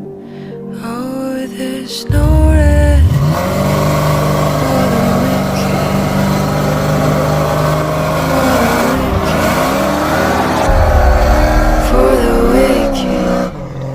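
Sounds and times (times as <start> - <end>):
car engine revving: 2.1 - 13.9.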